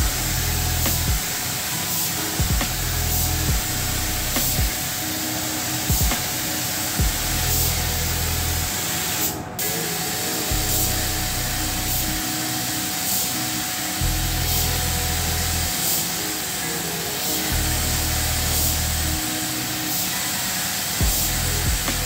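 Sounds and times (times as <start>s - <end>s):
paint spray gun hissing: 0.0s - 22.0s.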